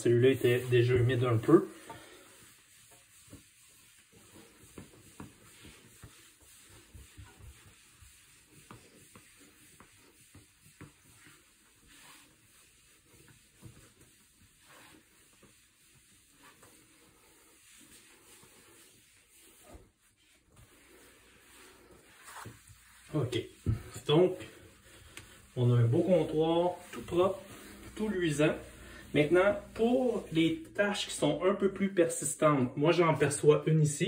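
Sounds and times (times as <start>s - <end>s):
cloth rubbing on countertop: 0.0s - 32.3s.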